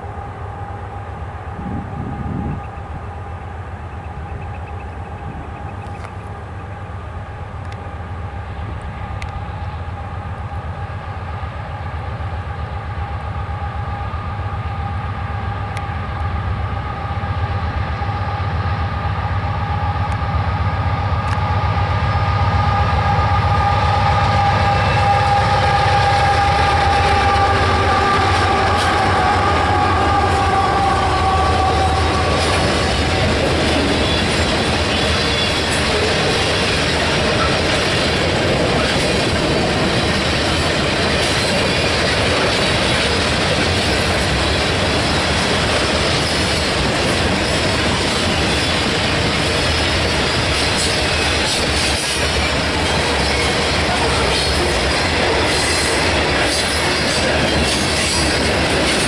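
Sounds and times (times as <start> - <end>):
locomotive engine rumble: 0.0 - 59.0.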